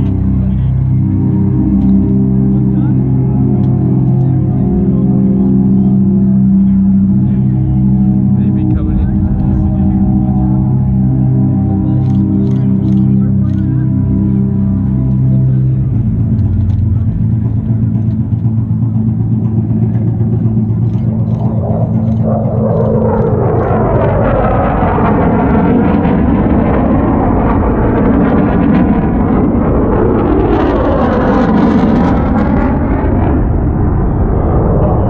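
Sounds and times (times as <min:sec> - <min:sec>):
jet aircraft roaring past: 0:00.0 - 0:35.0.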